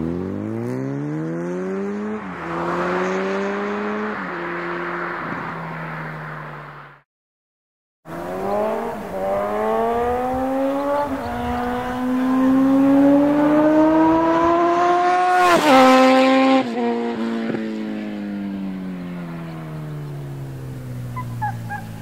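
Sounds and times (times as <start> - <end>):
motorcycle accelerating: 0.0 - 7.0, 8.1 - 22.0.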